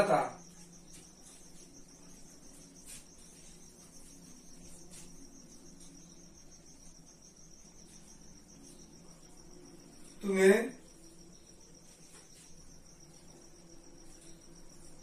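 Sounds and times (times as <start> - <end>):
cricket trilling: 0.0 - 15.0.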